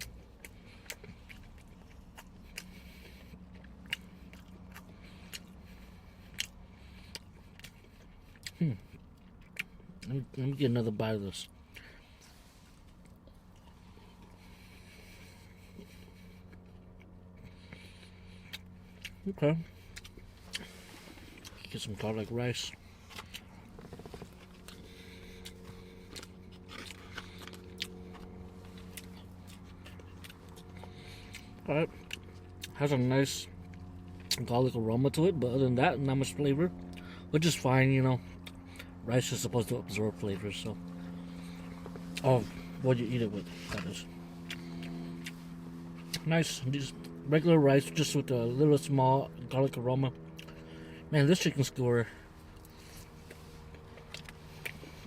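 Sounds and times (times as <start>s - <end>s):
person chewing: 0.0s - 10.4s, 11.4s - 32.8s, 33.4s - 34.5s, 36.8s - 37.2s, 38.2s - 39.0s, 39.6s - 46.3s, 50.2s - 50.8s, 52.1s - 55.0s
low steady hum: 0.0s - 55.0s.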